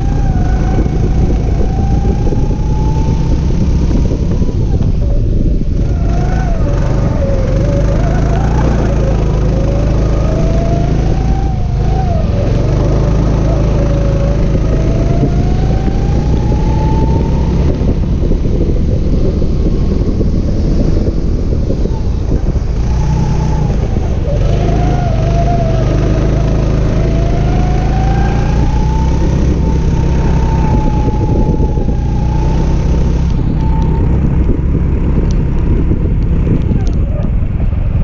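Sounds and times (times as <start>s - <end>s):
go-kart engine revving: 0.0s - 38.0s.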